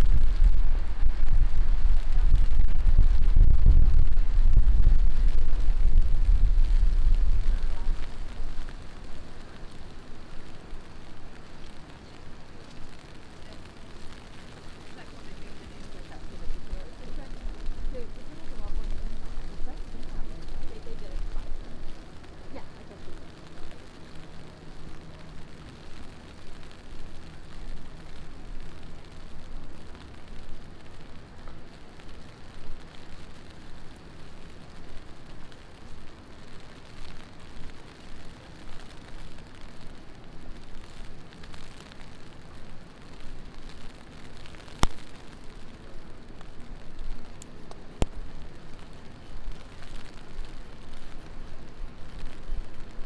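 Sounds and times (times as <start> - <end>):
heavy rain pattering: 0.0 - 53.0.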